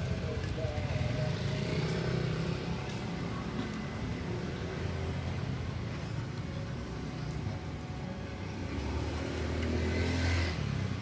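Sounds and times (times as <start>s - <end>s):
traffic engine rumble: 0.0s - 11.0s.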